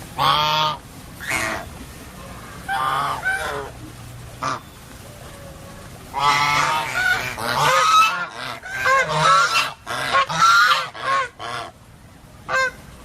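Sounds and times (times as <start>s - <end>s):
geese honking: 0.2s - 3.8s, 4.4s - 11.8s, 12.5s - 12.8s.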